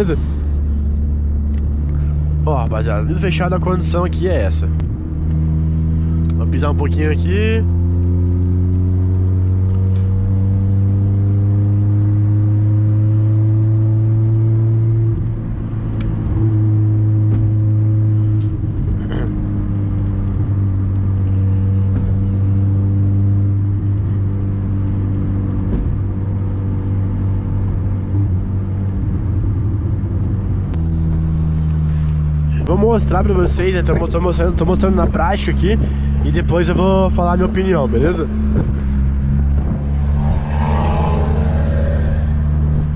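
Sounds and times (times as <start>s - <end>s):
car engine drone inside cabin: 0.0s - 42.9s.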